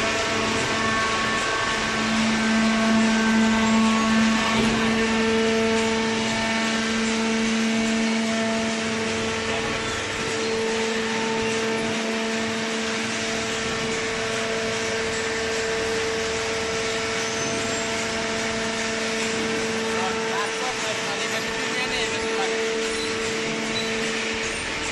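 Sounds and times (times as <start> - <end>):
baler machine hum: 0.0 - 24.9.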